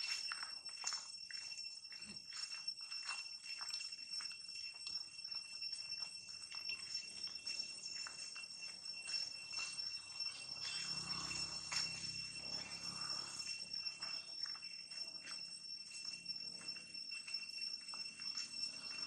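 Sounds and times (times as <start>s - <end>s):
high-pitched insect drone: 0.0s - 19.0s
insect ticks and chirps: 0.0s - 19.0s.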